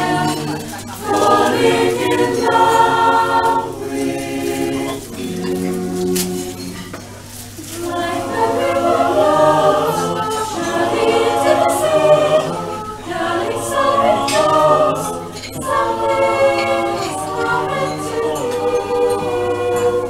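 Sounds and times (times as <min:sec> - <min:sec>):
choir singing a cappella: 0:00.0 - 0:20.0.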